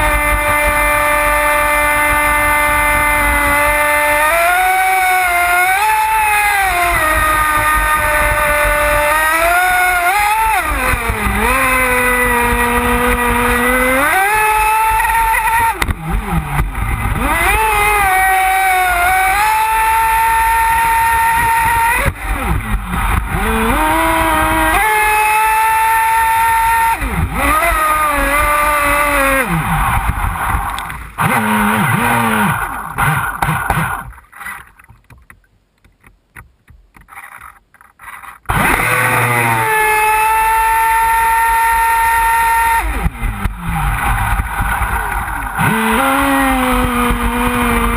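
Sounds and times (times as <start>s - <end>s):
electric boat motor whine: 0.0s - 34.4s, 38.5s - 47.9s.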